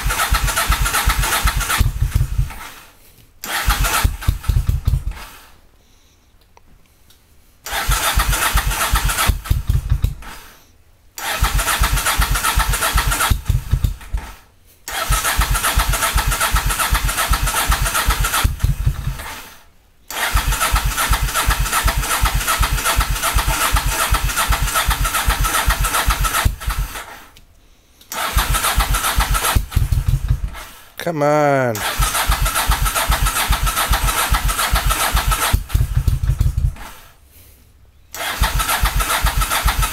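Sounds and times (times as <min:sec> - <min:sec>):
motorcycle engine cranking: 0:00.0 - 0:05.4, 0:07.7 - 0:10.5, 0:11.2 - 0:19.4, 0:20.1 - 0:27.2, 0:28.1 - 0:30.8, 0:31.8 - 0:37.2, 0:38.2 - 0:39.9.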